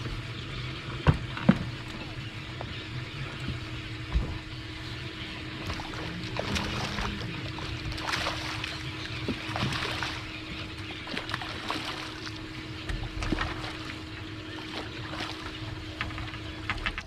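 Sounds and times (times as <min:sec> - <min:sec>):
steady low hum: 0:00.0 - 0:17.0
water lapping around boat: 0:00.0 - 0:17.0.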